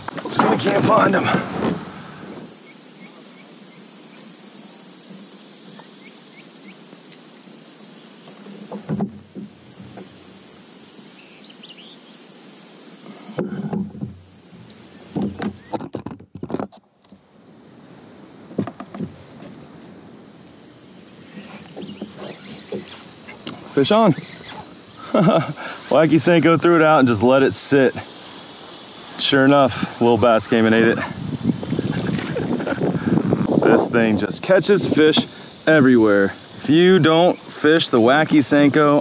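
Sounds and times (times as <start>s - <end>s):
insects buzzing: 0.0s - 39.0s.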